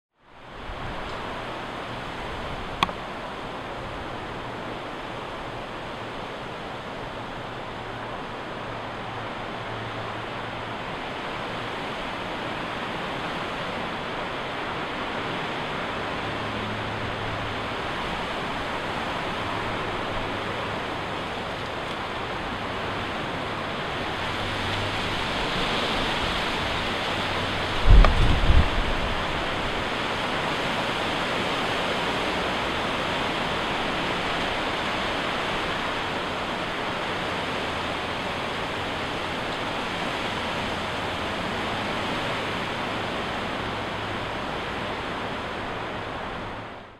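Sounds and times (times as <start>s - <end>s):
wind rushing through trees: 0.1s - 46.9s.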